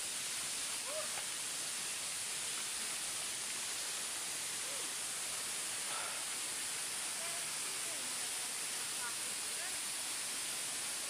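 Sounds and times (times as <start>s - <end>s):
flowing creek water: 0.0s - 11.0s.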